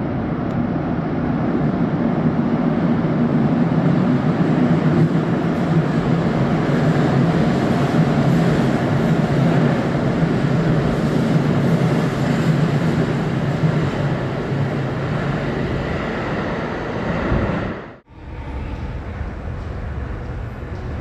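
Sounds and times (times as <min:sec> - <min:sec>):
steady background noise: 0:00.0 - 0:21.0
train wheels rumbling on rail: 0:00.0 - 0:21.0.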